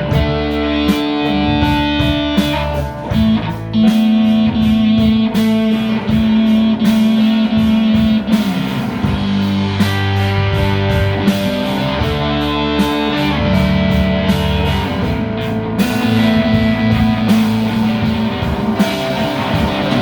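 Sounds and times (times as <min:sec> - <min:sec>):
electric guitar held notes: 0:00.0 - 0:20.0
steady drum beat: 0:00.0 - 0:20.0.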